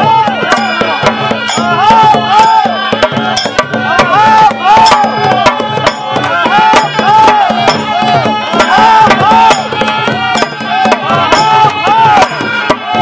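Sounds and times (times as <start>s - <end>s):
drum strokes: 0.0s - 13.0s.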